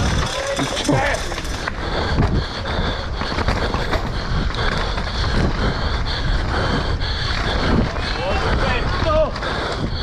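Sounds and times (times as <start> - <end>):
bike tyres rumbling and rattling: 0.0 - 10.0.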